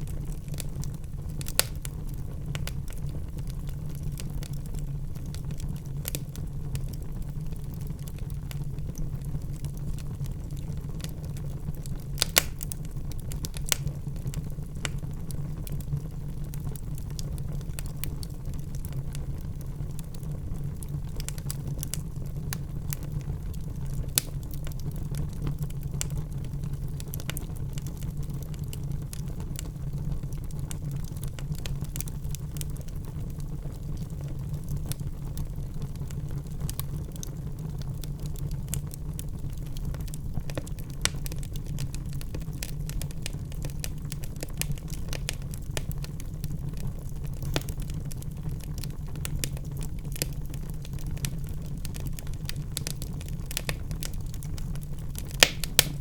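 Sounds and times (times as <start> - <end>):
fire flames rumbling: 0.0 - 56.0
logs crackling and popping: 0.0 - 56.0.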